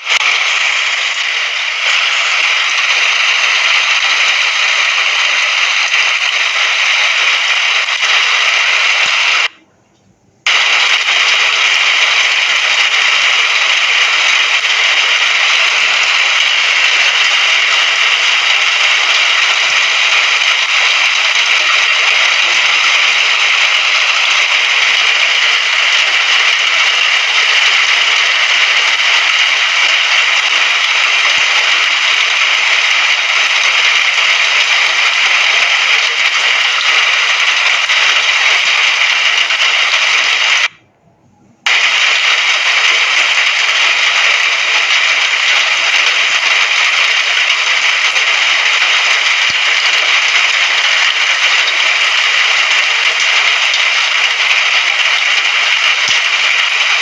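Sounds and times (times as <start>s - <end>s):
rain falling: 0.0s - 9.6s, 10.5s - 40.8s, 41.6s - 57.0s.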